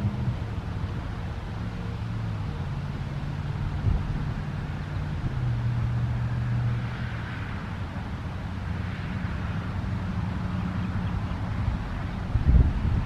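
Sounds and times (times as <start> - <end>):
outdoor background noise: 0.0 - 13.0
vehicle engine humming: 0.0 - 13.0.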